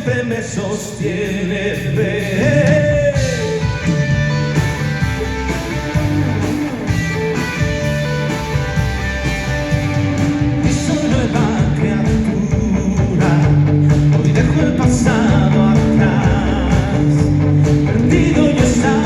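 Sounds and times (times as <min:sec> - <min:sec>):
band playing guitars bass drums: 0:00.0 - 0:19.0.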